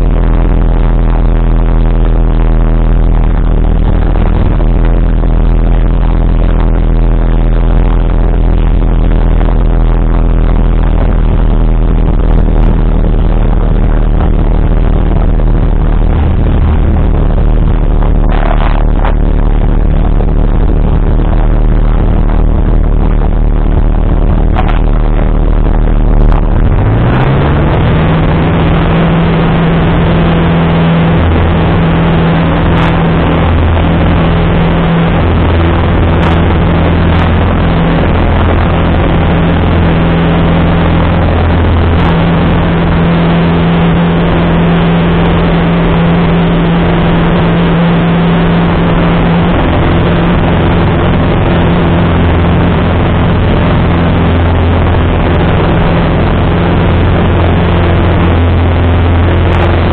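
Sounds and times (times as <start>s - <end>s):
airflow noise: 0.0s - 59.9s
light aircraft engine droning: 0.0s - 59.9s.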